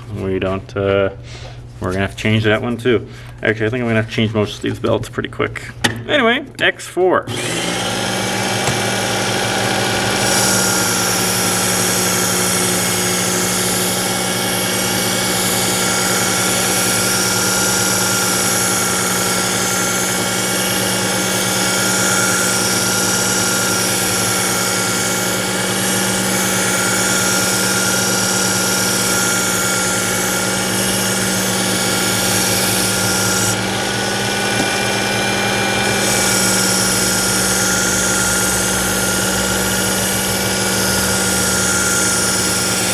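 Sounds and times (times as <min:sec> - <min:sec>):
belt sharpener motor hum: 0:07.3 - 0:42.9.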